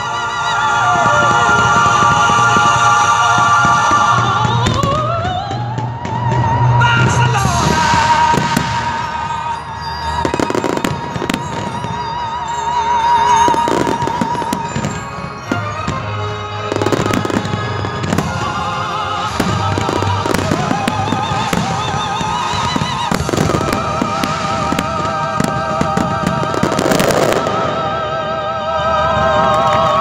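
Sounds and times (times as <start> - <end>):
fireworks bursting and crackling: 0.0 - 28.3
music with long held notes: 0.0 - 30.0.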